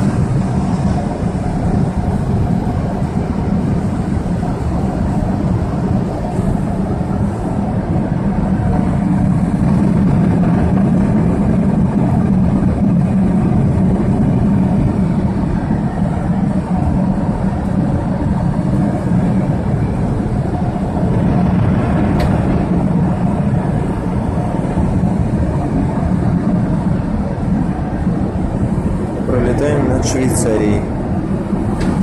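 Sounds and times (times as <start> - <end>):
airliner cabin noise: 0.0 - 32.0.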